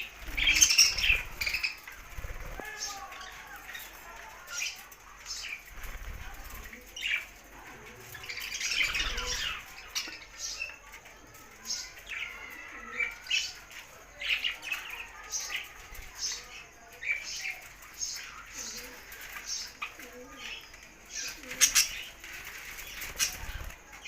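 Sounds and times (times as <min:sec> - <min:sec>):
budgerigars chirping and chattering: 0:00.0 - 0:24.0.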